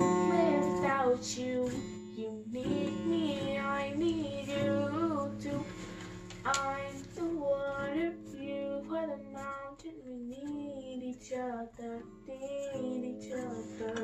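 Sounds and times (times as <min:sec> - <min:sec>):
acoustic guitar: 0:00.0 - 0:14.0
girl singing: 0:00.0 - 0:14.0.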